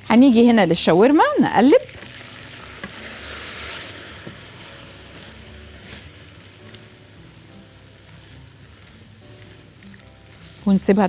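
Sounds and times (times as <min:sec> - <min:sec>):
meat sizzling in a pan: 0:01.1 - 0:11.0.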